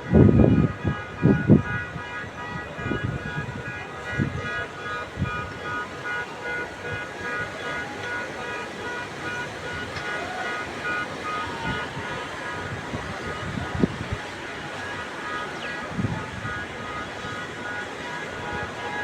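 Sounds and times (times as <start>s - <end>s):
street traffic: 0.0s - 19.0s
heavy rain: 2.6s - 19.0s.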